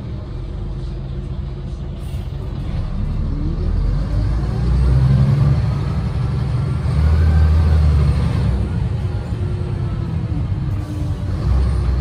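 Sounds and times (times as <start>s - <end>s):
diesel bus engine pulling under load: 0.0s - 12.0s.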